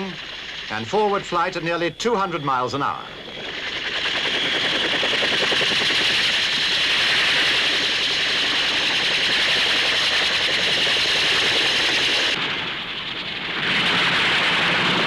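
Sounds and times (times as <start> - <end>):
aircraft roar with fast chatter: 0.0 - 15.0.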